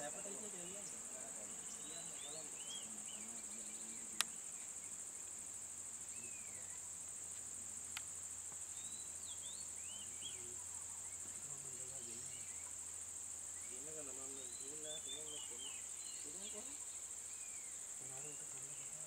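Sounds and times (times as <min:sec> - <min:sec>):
bird chirps: 0:00.0 - 0:05.3, 0:06.0 - 0:07.0, 0:08.6 - 0:19.0
insects droning: 0:00.0 - 0:19.0.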